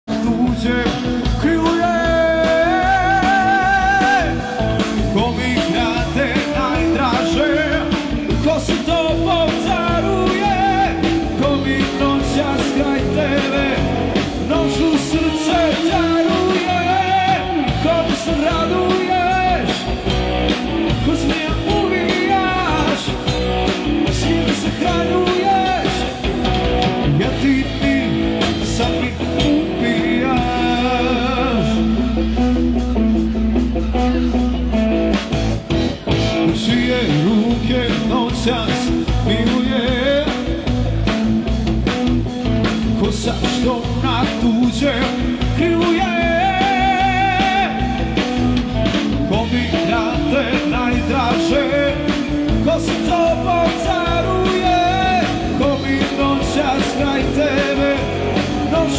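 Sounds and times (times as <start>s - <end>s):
person singing: 0.0s - 40.8s, 42.6s - 58.9s
guitar: 0.0s - 58.9s
live rock band: 0.0s - 58.9s.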